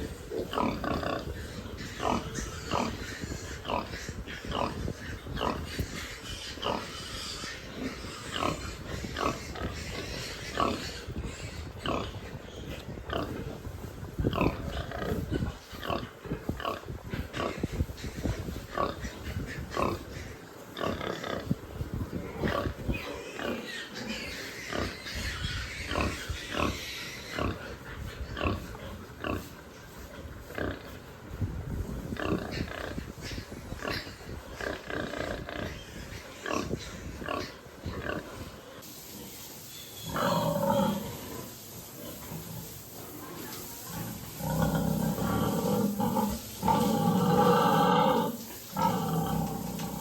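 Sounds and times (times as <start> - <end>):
pigs grunting: 0.0 - 31.4, 32.1 - 38.8, 40.1 - 42.8, 43.8 - 50.0.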